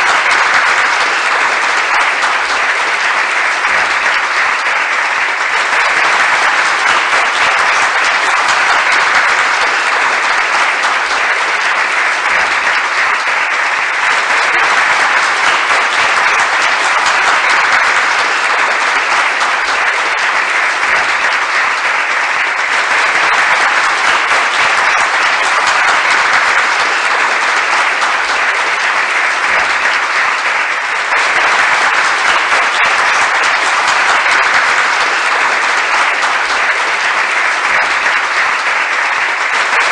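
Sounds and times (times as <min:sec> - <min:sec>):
crowd applause: 0:00.0 - 0:39.9.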